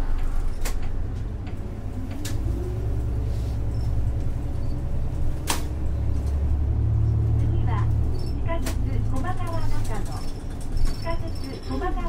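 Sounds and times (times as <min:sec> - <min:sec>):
bus diesel engine accelerating: 0:00.0 - 0:12.0.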